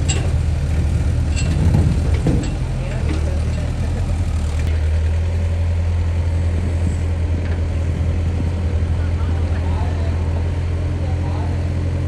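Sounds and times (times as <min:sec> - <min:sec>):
excavator diesel engine humming: 0:00.0 - 0:12.0.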